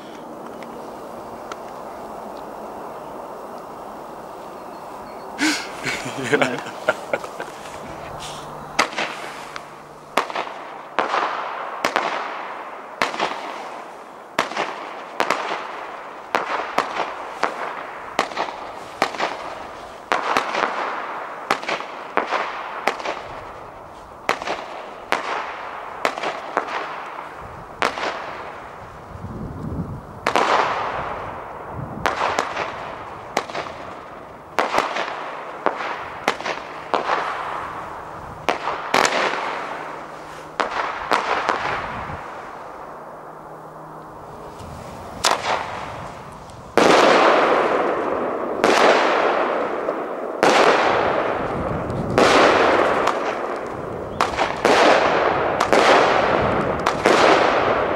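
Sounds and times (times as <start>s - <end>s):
fireworks bangs: 0.0s - 43.0s, 43.8s - 57.9s.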